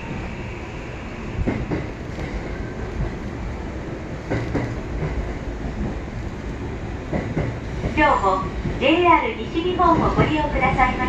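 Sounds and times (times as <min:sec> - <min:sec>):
train car running noise: 0:00.0 - 0:11.0.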